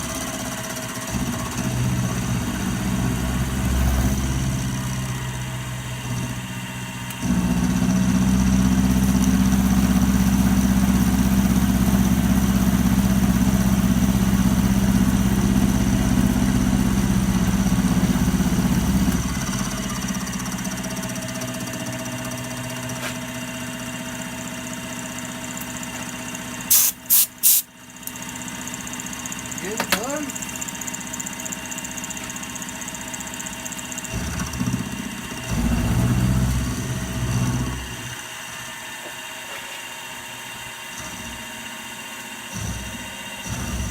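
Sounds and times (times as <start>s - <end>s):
milling machine humming: 0.0s - 43.9s.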